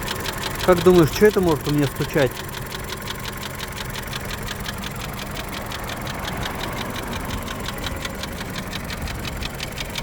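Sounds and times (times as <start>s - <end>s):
fast regular ticking knock: 0.0s - 10.0s
petrol engine idling: 0.0s - 10.0s.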